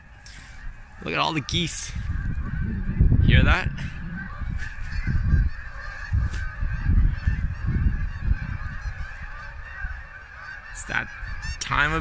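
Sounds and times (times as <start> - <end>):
low rumbling on microphone: 0.0 - 10.5
geese honking: 0.0 - 12.0.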